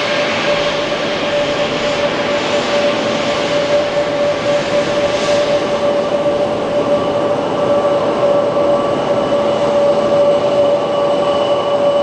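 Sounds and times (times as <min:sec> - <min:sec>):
jet engines high whine: 0:00.0 - 0:12.0.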